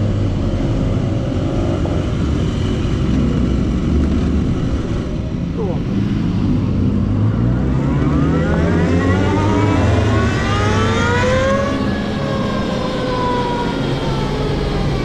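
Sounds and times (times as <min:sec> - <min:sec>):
electric motorcycle drivetrain whining: 0:00.0 - 0:15.0
wind and road noise: 0:00.0 - 0:15.0.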